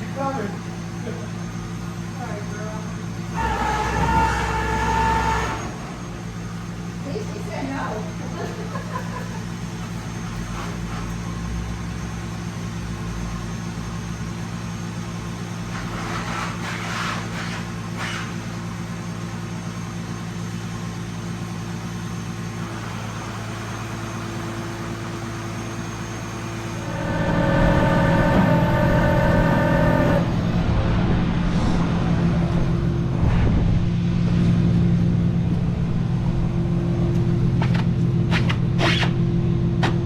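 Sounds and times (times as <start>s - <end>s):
truck engine running: 0.0s - 16.0s, 17.6s - 40.0s
high engine whine: 0.0s - 40.0s.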